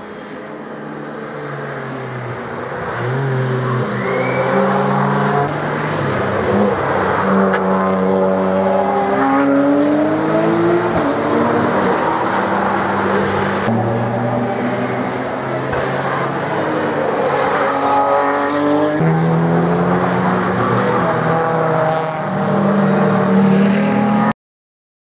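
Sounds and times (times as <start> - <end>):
racing car engines passing: 0.0 - 24.3.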